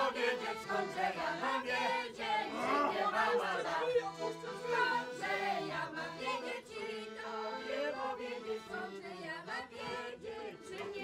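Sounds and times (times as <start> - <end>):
accordion playing folk tune: 0.0 - 11.0
voices singing along: 0.0 - 11.0.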